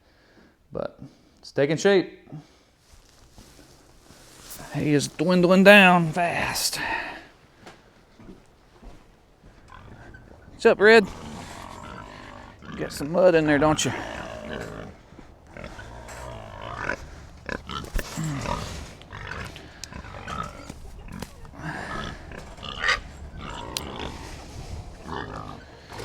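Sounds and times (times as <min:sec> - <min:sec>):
pigs grunting: 0:04.5 - 0:26.0.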